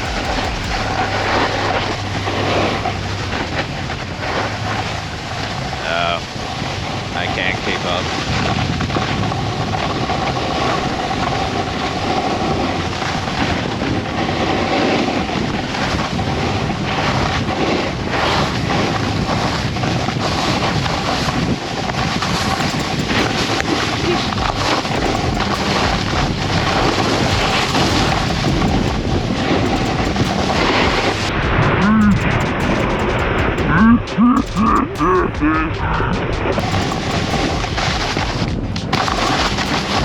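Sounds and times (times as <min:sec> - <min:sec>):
snowboard scraping over snow: 0:00.0 - 0:31.9, 0:36.6 - 0:40.0
wind rushing over microphone: 0:00.0 - 0:32.9, 0:35.5 - 0:40.0.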